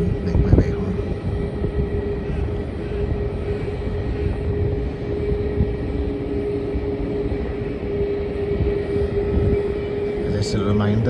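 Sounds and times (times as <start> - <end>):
jet engine whine: 0.0 - 11.0
wind rumble on microphone: 0.0 - 11.0.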